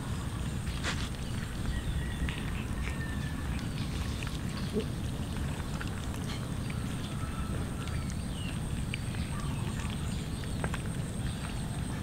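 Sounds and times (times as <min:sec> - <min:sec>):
cats chewing and clicking: 0:00.0 - 0:12.0
steady low rumble: 0:00.0 - 0:12.0.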